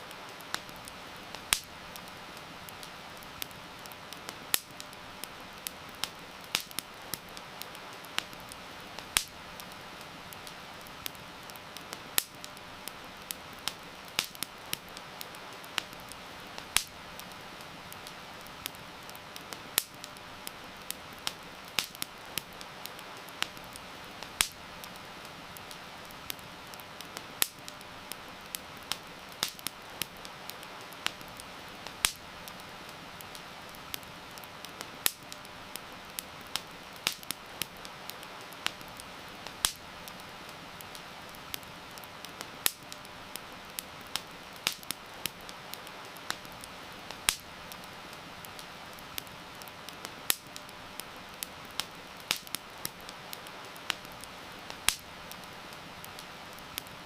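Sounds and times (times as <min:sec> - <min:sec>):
campfire crackling and popping: 0:00.0 - 0:57.0
rain hiss: 0:00.0 - 0:57.0.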